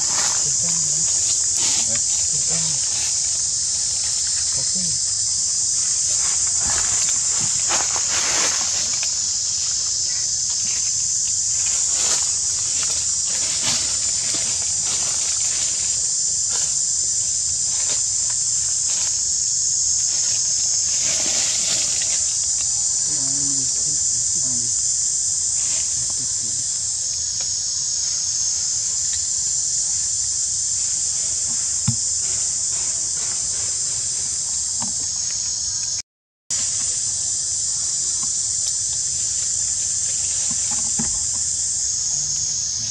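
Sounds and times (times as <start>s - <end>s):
insect chorus drone: 0.0s - 42.9s.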